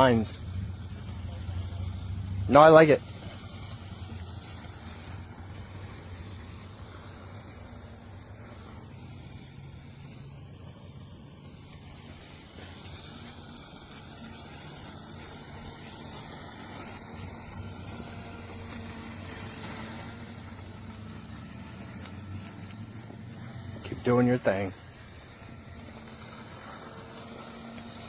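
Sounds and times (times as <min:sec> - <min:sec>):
robotic lawn mower humming: 0:00.0 - 0:28.0.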